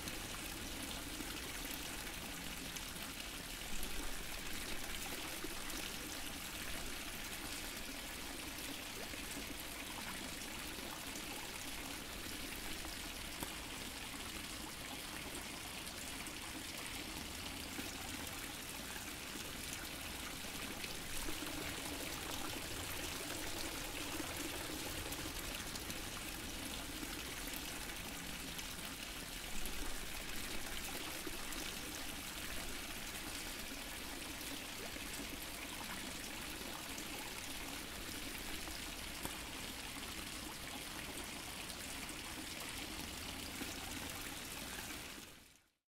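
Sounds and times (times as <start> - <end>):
fountain water trickling: 0.0 - 45.7.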